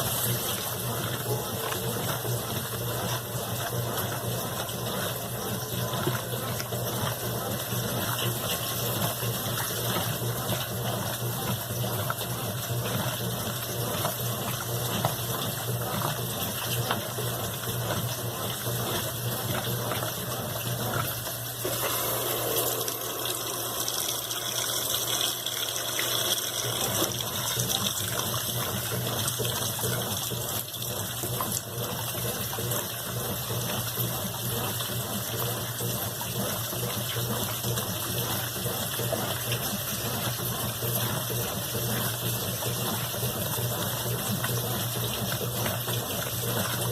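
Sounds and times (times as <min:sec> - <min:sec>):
water gushing in washing machine: 0:00.0 - 0:46.9.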